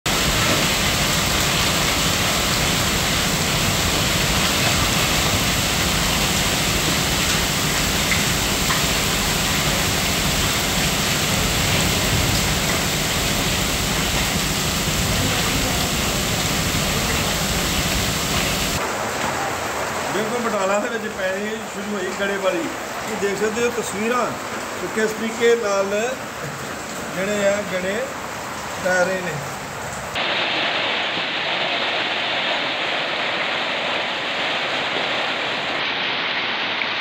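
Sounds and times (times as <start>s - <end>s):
hail and heavy rain falling: 0.1s - 29.5s, 30.2s - 37.0s.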